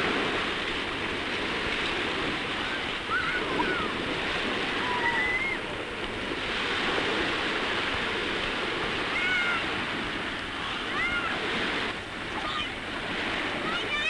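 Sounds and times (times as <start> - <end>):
surf and wind: 0.0 - 14.0.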